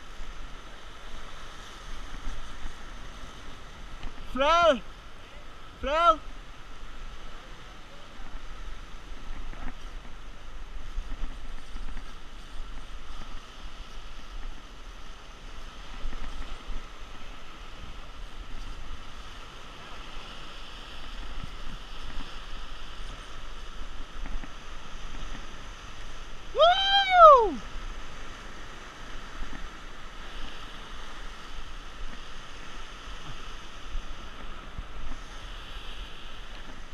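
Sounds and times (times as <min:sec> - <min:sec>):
surf breaking against rocks: 0:00.0 - 0:36.9.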